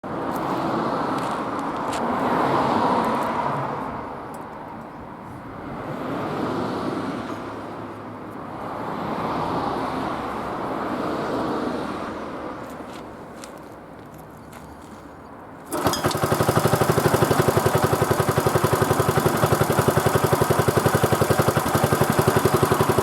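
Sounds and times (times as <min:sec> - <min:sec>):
road traffic rushing: 0:00.0 - 0:23.0.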